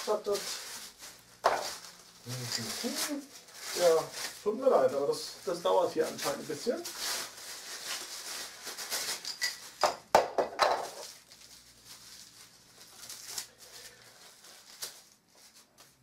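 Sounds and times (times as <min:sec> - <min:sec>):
paper packing crinkling: 0:00.0 - 0:09.8, 0:10.8 - 0:16.0.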